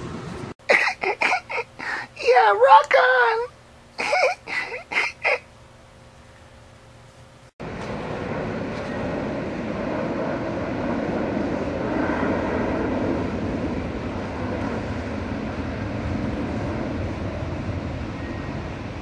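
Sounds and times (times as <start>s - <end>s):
jet aircraft rumbling overhead: 0.0s - 19.0s.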